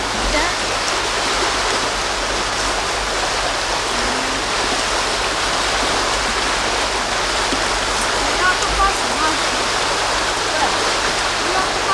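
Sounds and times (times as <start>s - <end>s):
fast-flowing water rushing: 0.0s - 11.9s.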